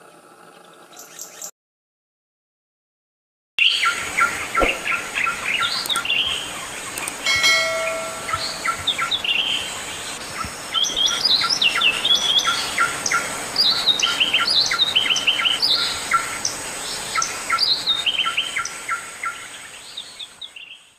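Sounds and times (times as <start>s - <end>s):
songbird singing: 3.6s - 20.9s.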